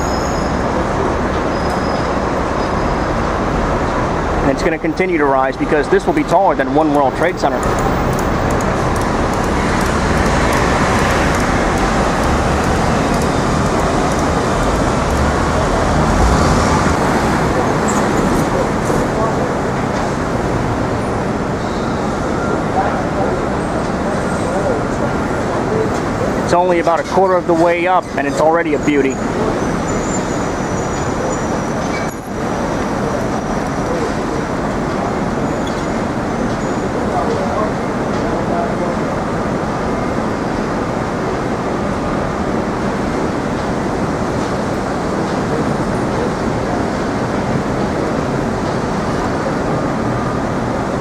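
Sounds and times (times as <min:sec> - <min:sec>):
city street traffic: 0:00.0 - 0:51.0
passing cars and buses: 0:00.0 - 0:51.0.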